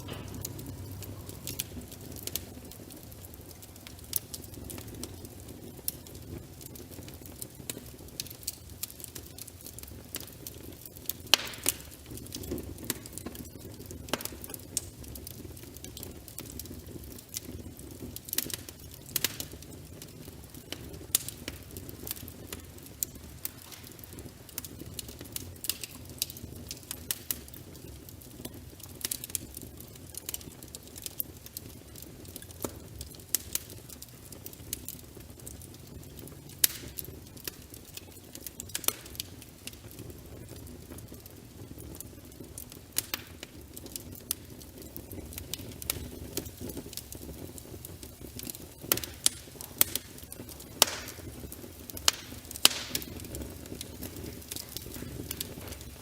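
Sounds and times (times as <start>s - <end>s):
low rumble of burning: 0.0s - 56.0s
wood fire crackling and popping: 0.0s - 56.0s.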